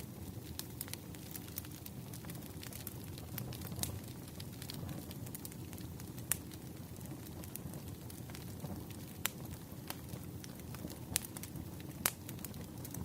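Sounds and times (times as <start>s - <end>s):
fire flames rumbling: 0.0s - 13.0s
wood fire crackling and popping: 0.0s - 13.0s.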